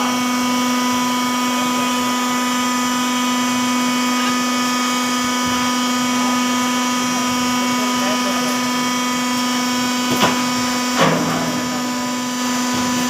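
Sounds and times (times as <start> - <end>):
heavy machinery whining: 0.0 - 13.0.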